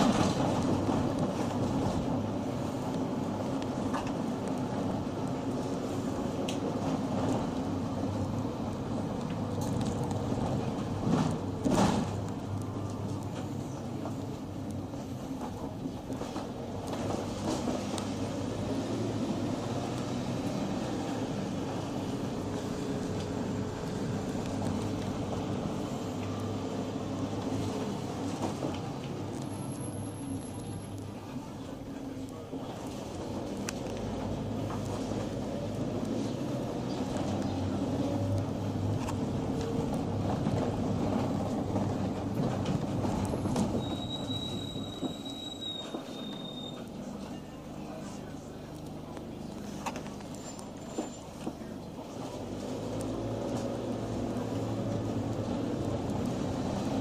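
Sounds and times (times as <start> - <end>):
vehicle engine hum: 0.0 - 43.8, 46.7 - 57.0
road noise: 0.0 - 57.0.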